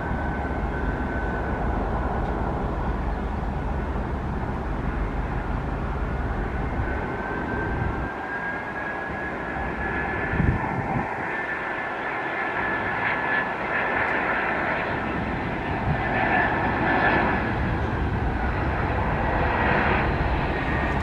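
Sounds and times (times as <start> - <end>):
high engine whine: 0.0 - 21.0
jet engines rushing: 0.0 - 21.0.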